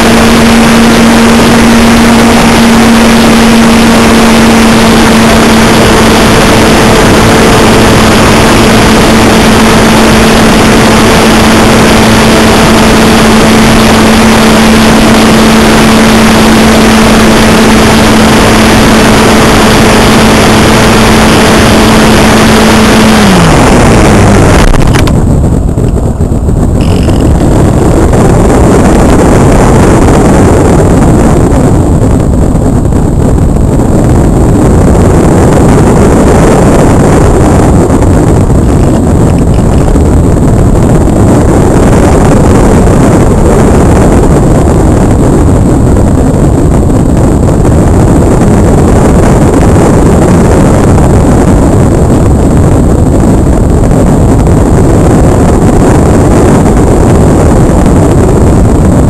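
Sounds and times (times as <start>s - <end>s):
electric motor and propeller: 0.0s - 59.0s
wind rush on microphone: 0.0s - 59.0s.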